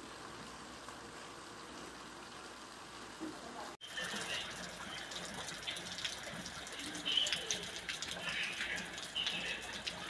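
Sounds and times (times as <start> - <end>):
rain hissing: 0.0 - 10.0
raindrops pattering: 0.0 - 10.0.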